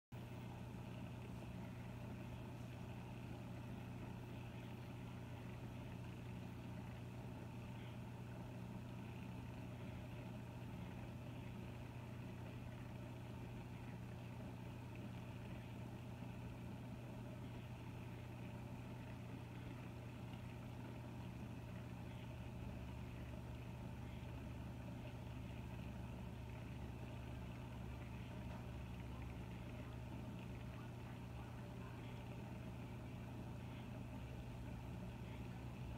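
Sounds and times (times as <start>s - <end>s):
aquarium pumps humming: 0.2s - 35.9s.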